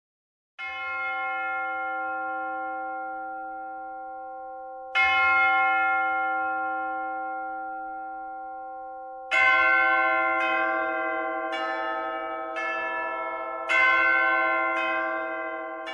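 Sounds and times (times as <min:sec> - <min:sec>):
church bell tolling: 0:00.6 - 0:15.9.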